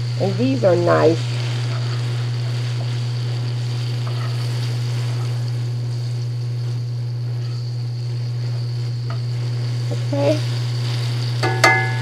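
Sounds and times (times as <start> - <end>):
fish frying in hot oil: 0.0 - 12.0
loud steady low hum: 0.0 - 12.0.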